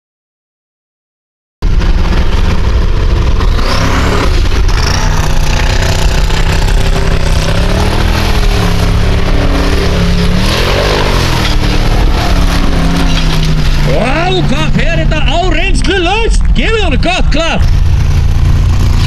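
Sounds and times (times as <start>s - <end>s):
buggy engine revving: 1.6s - 19.0s.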